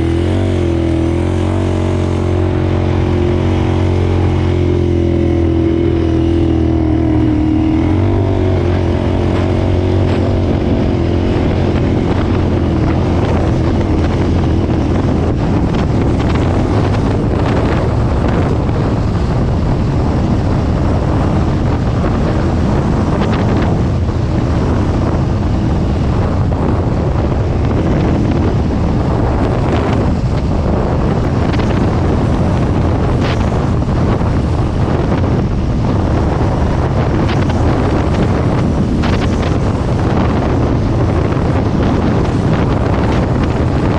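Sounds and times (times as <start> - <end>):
motorcycle engine running: 0.0 - 43.9
wind rushing over microphone: 0.0 - 43.9.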